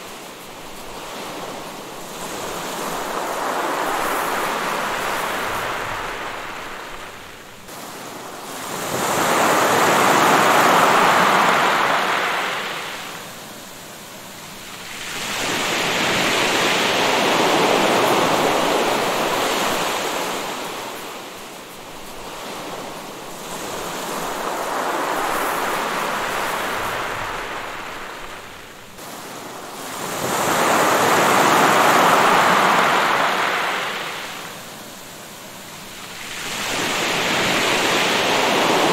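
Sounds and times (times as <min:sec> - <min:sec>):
sea surf washing onto shore: 0:00.0 - 0:38.9.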